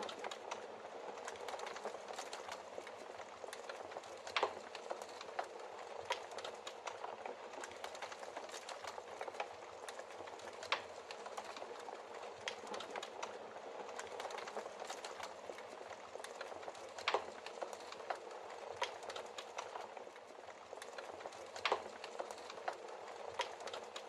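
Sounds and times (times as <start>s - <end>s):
logs crackling in fireplace: 0.0s - 24.0s.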